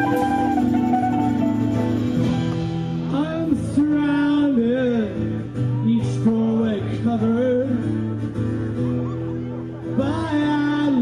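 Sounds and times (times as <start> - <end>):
song with voice and guitar: 0.0 - 11.0.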